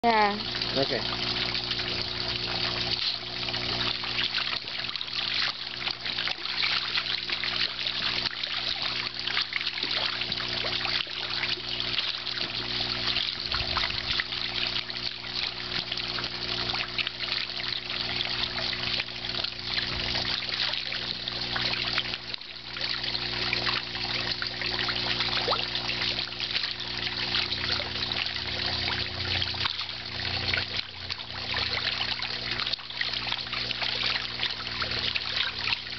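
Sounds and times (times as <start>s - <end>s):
constant low hum: 0.0s - 35.9s
water trickling and splashing: 0.0s - 35.9s.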